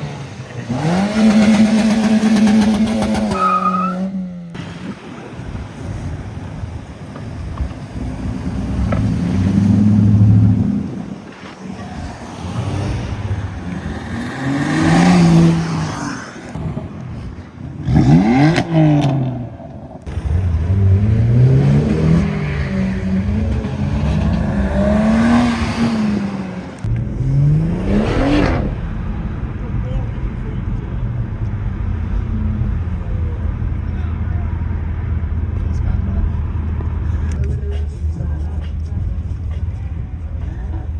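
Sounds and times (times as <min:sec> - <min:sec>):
cars accelerating past: 0:00.0 - 0:39.8.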